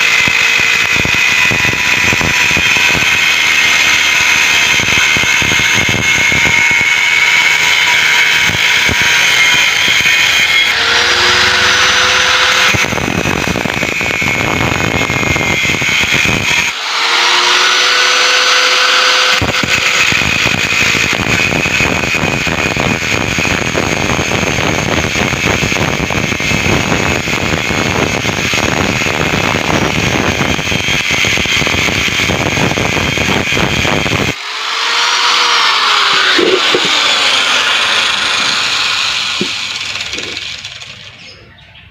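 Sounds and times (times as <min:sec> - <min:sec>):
angle grinder cutting steel: 0:00.0 - 0:41.4.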